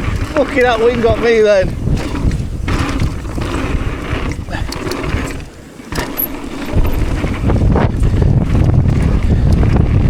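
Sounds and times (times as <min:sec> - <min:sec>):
bike clicks: 0:00.0 - 0:10.0
wind buffeting microphone: 0:00.0 - 0:10.0.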